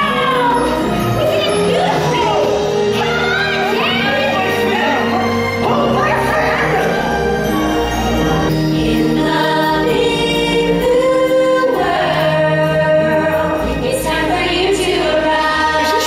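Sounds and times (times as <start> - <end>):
group singing with accompaniment: 2.5 - 16.0.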